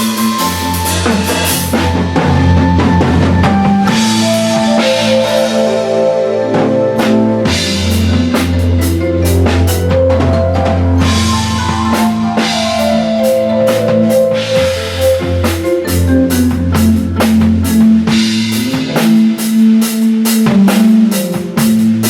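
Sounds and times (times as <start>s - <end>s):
sustained pitched notes: 0.0s - 20.0s
drums and cymbals groove: 0.0s - 22.0s
steady bass line: 0.0s - 22.0s.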